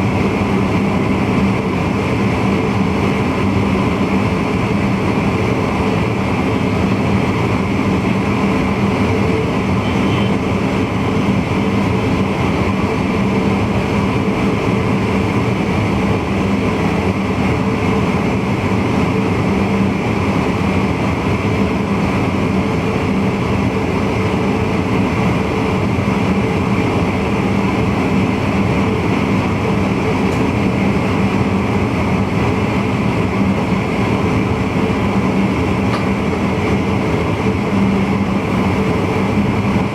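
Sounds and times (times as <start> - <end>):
steady hum: 0.0 - 39.9
train rolling noise: 0.0 - 39.9.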